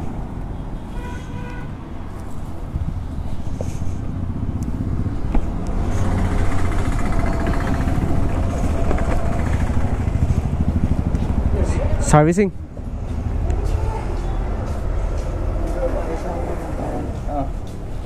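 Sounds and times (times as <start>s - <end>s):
vehicle engine running: 3.1s - 18.0s.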